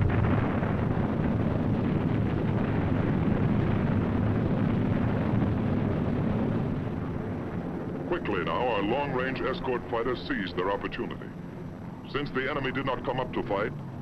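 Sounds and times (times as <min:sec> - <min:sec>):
aircraft engines droning: 0:00.0 - 0:14.0.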